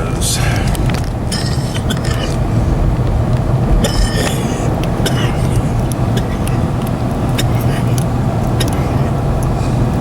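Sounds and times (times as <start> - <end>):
in-cab engine drone: 0.0 - 10.0.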